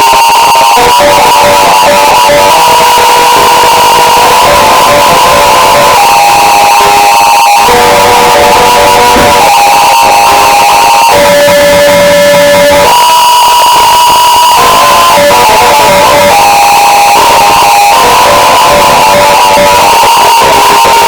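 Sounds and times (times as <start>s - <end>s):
harsh distorted noise music: 0.0s - 21.0s.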